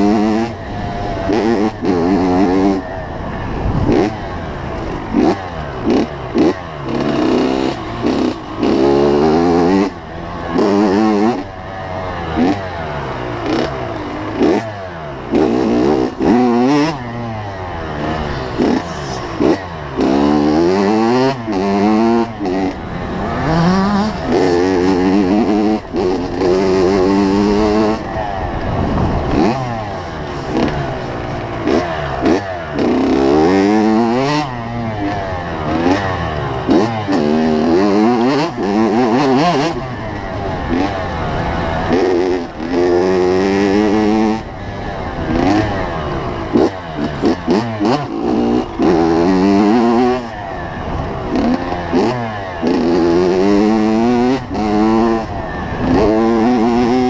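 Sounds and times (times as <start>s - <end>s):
two-stroke motorbike engine revving: 0.0s - 57.0s.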